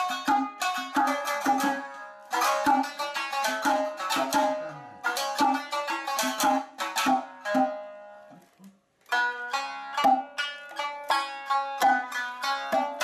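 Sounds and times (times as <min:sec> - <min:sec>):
plucked shamisen music: 0:00.0 - 0:13.0.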